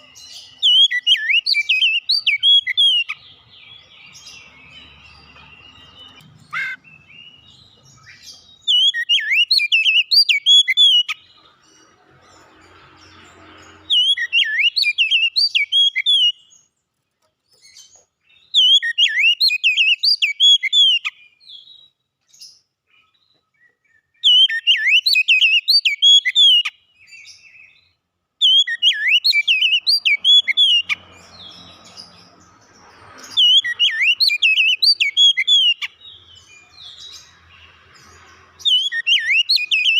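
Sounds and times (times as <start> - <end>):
magpie-robin singing: 0.0 - 16.7, 17.5 - 39.9.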